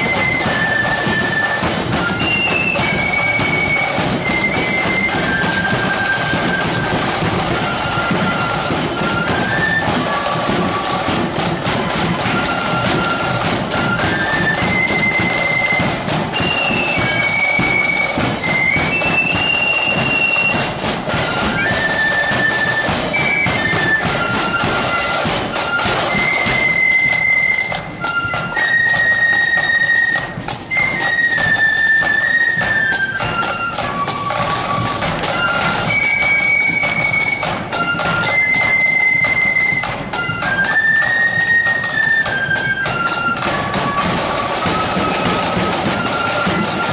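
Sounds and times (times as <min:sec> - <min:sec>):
drums striking a steady beat: 0:00.0 - 0:46.9
flute band playing in unison: 0:00.0 - 0:46.9.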